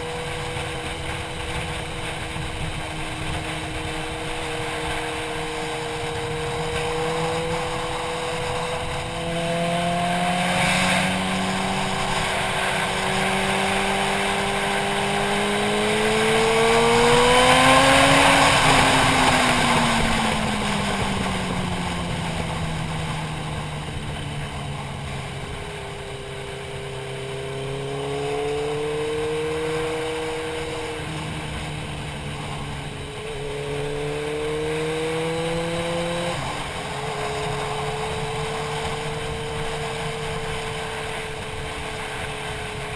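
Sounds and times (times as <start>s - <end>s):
motorcycle engine revving: 0.0s - 42.9s
wind rush: 0.0s - 42.9s.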